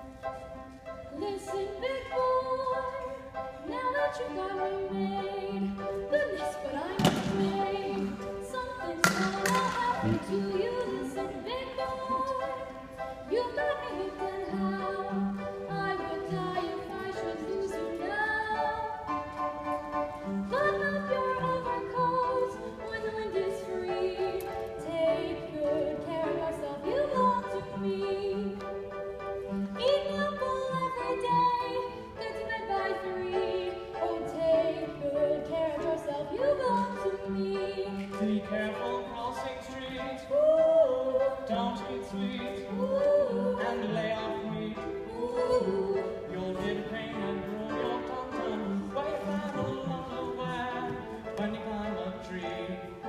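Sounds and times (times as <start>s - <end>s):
woman singing with vibrato: 1.1s - 19.3s, 20.2s - 28.6s, 29.8s - 52.9s.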